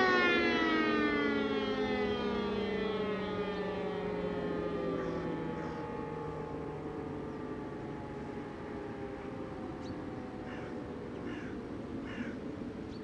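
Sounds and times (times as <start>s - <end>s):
motor sirens winding down: 0.0s - 12.9s.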